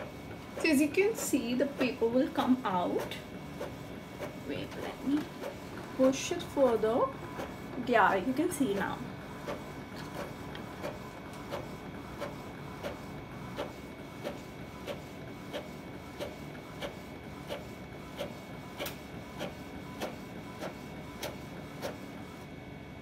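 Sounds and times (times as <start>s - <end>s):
printer clicking: 0.0s - 22.4s
printer whine: 0.0s - 23.0s.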